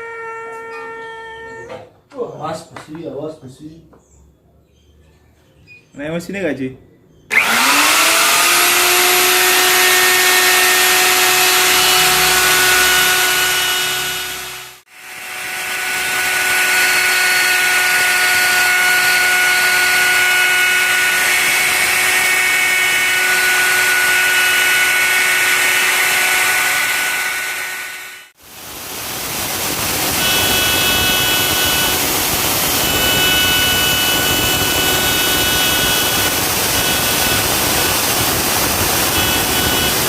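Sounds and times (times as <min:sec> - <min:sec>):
router motor whine: 0:07.3 - 0:40.0.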